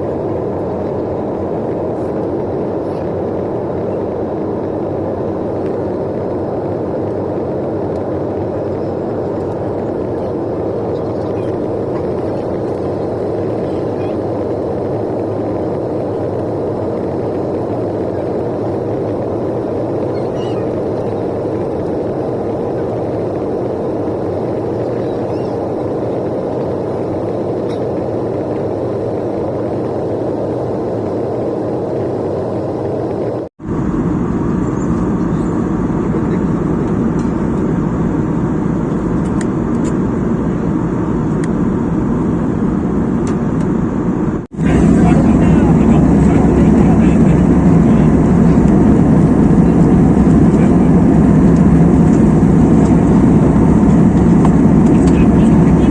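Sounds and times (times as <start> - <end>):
airliner cabin drone: 0.0 - 55.9.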